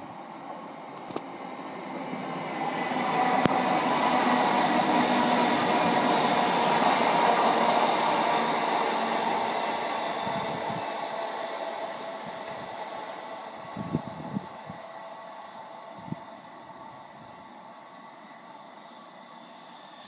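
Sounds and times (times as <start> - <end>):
train whine: 0.0 - 20.0.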